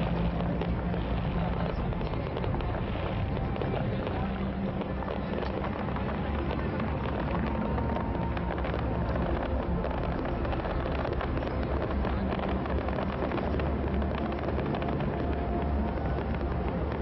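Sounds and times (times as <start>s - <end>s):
fireworks crackling and popping: 0.0s - 17.0s
ship low rumble: 0.0s - 17.0s.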